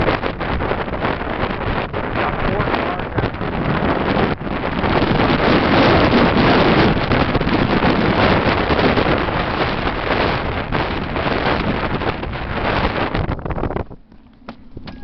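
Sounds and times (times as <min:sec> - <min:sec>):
blizzard wind buffeting microphone: 0:00.0 - 0:15.0.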